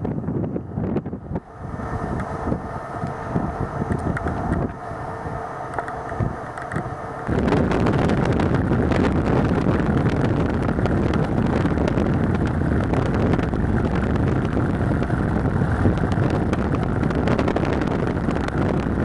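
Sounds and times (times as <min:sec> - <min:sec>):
vehicle rumble: 0:00.0 - 0:19.0
wind buffeting microphone: 0:00.0 - 0:19.0.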